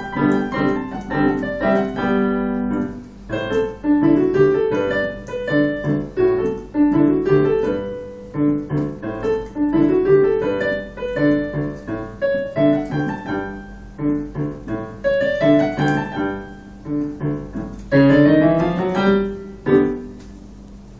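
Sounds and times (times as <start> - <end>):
digital piano piece: 0.0 - 20.9.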